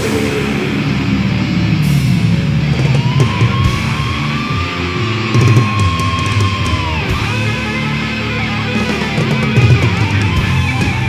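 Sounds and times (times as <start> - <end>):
distorted electric guitars: 0.0 - 11.0
fast drums: 0.0 - 11.0.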